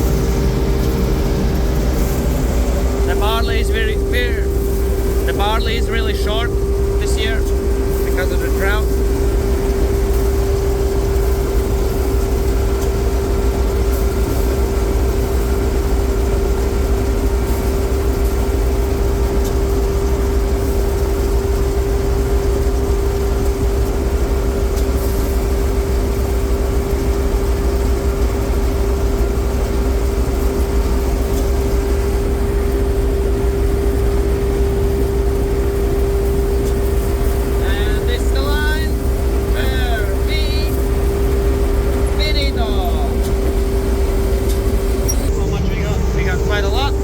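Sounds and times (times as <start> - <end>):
combine harvester engine rumble: 0.0 - 47.0
steady machine whine: 0.0 - 47.0.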